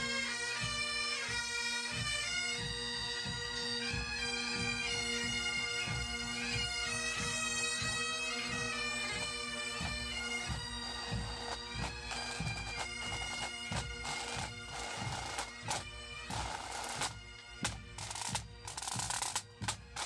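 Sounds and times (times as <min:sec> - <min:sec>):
bagpipes playing a tune: 0:00.0 - 0:20.0
pipe band drums: 0:00.0 - 0:20.0.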